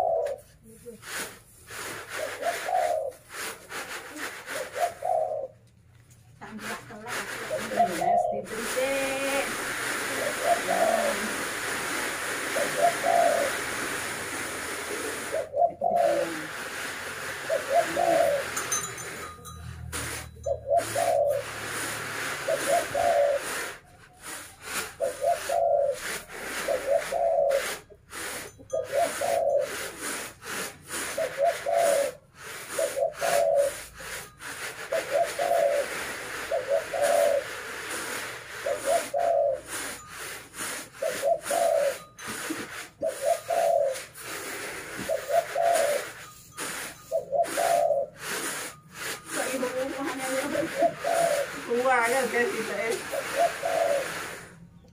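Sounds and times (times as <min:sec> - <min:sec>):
rice grain rustling on bamboo trays: 0:00.0 - 0:54.8.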